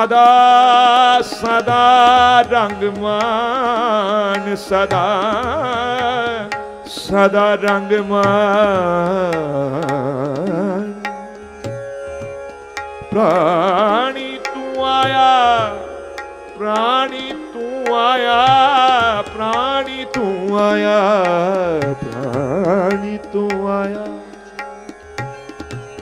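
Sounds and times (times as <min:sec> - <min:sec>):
ornamented devotional melody: 0:00.0 - 0:26.0
tabla strokes: 0:01.0 - 0:26.0.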